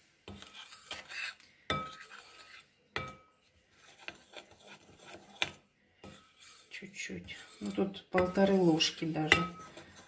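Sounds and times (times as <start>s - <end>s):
spoon scraping in batter: 0.0s - 10.0s.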